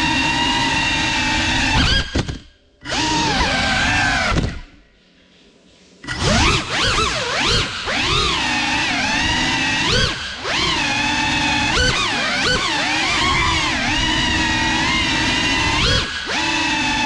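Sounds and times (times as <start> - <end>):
drone motors whining: 0.0 - 5.0, 6.0 - 17.0.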